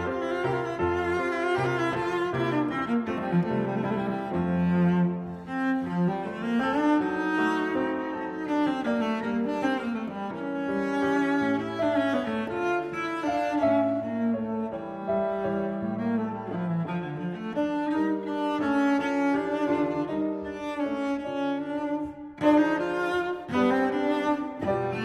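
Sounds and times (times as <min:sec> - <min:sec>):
bowed strings music: 0:00.0 - 0:25.0.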